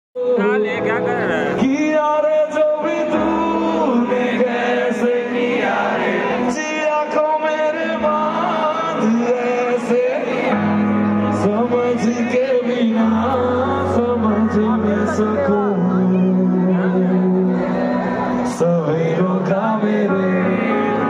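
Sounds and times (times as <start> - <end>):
live band with steady bass: 0.2 - 21.0
man singing long sliding notes: 0.2 - 21.0.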